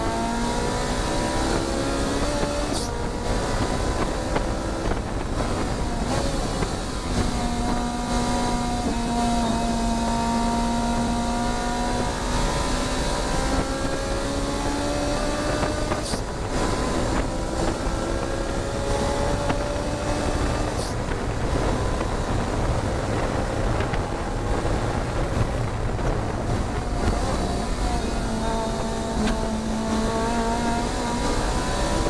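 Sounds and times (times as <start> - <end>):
race car engine: 0.0 - 32.0
road and wind noise: 0.0 - 32.0.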